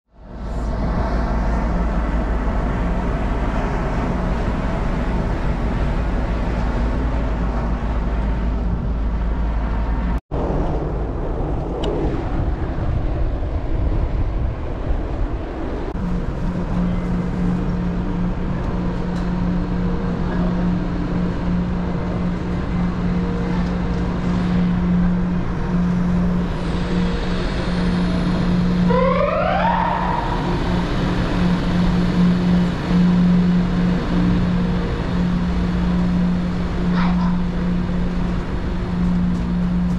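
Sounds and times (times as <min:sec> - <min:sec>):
engine rumble: 0:00.1 - 0:39.9
low hum: 0:00.1 - 0:39.9.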